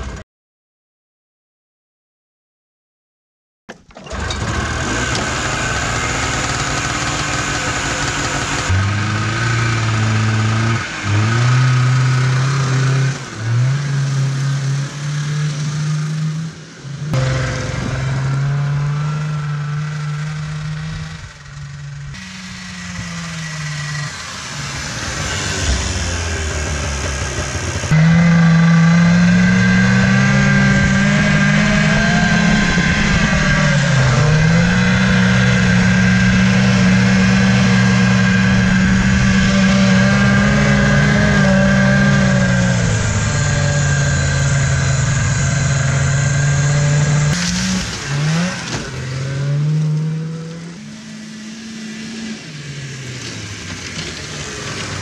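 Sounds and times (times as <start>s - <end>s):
snowmobile engine running: 4.1s - 55.0s.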